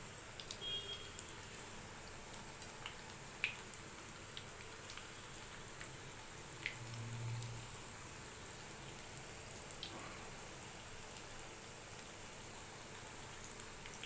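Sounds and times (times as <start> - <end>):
dough frying in oil: 0.0 - 14.0.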